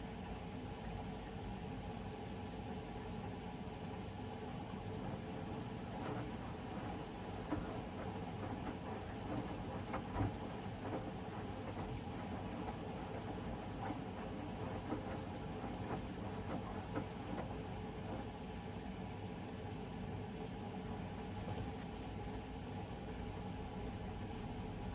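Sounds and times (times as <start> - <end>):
washing machine motor hum: 4.2 - 24.9.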